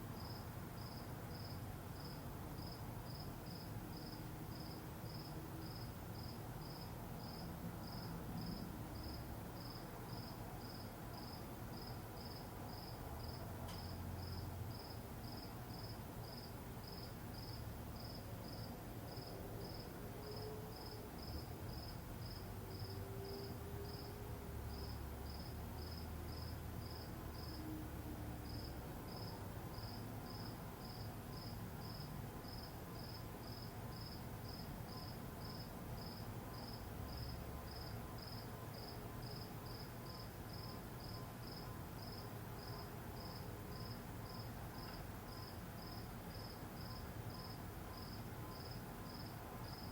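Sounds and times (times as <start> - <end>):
cricket chirping: 0.2 - 27.6, 28.4 - 49.9.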